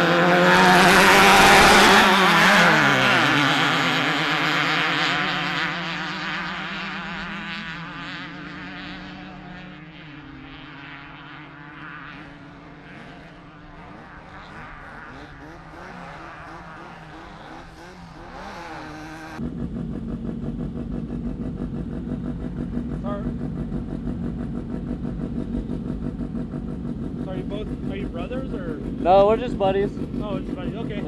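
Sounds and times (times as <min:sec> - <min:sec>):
loud engine running steadily: 0:00.0 - 0:31.0
vehicle engine revving: 0:00.0 - 0:31.0.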